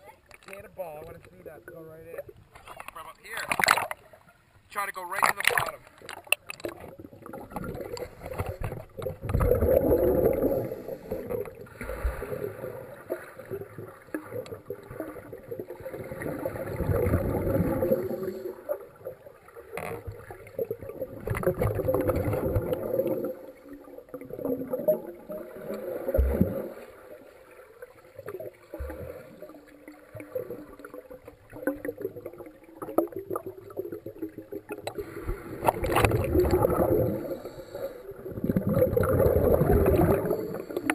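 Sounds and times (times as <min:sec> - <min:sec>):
water churning underwater: 0:00.0 - 0:40.9.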